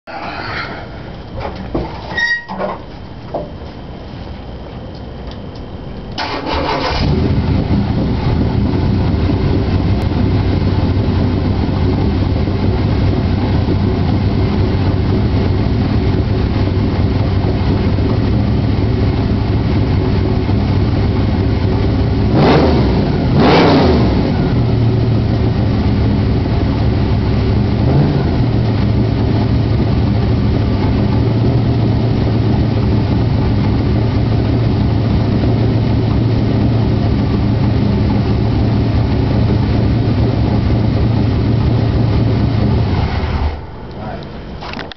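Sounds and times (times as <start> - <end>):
engine throttle blips: 0.0 - 44.9
car engine starting and idling: 4.8 - 44.9.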